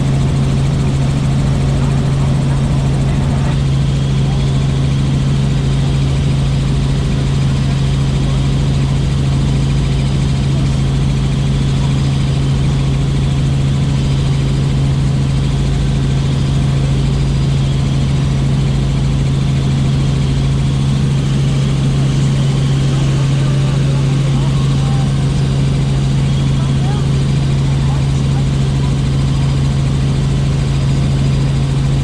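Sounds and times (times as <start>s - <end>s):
helicopter drone: 0.0s - 32.0s.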